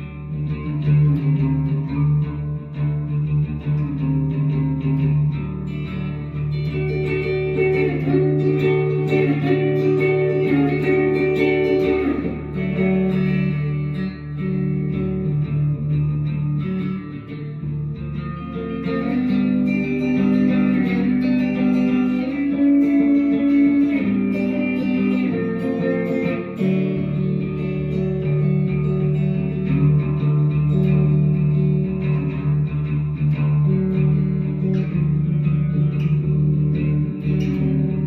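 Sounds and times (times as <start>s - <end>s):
plucked guitar notes: 0.0s - 38.0s.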